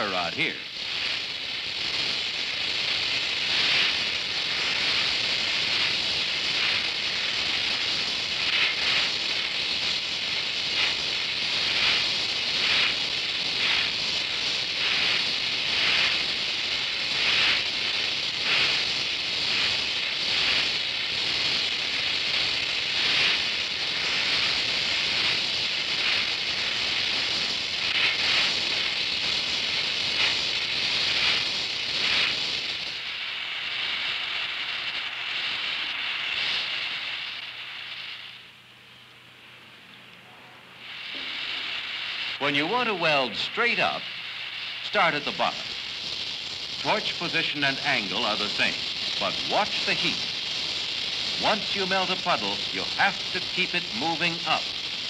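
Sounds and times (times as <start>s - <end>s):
crackles of melting metal: 0.0s - 55.0s
welding torch flame hissing: 0.0s - 55.0s.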